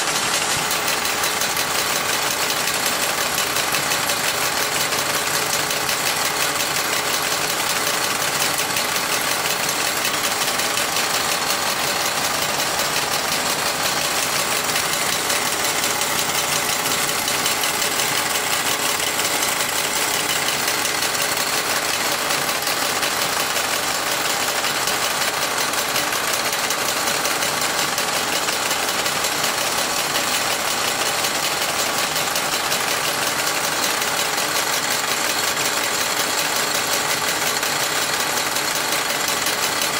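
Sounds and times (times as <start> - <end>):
toy workshop metallic clatter: 0.0 - 39.9.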